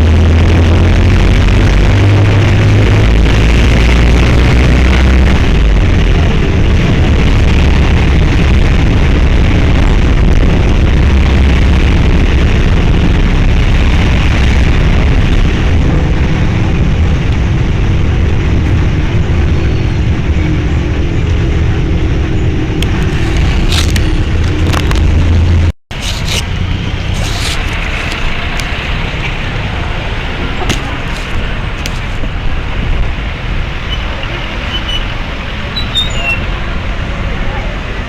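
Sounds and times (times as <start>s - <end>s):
vehicle engine and road noise: 0.0s - 38.0s
wind and tyre noise: 0.0s - 38.0s.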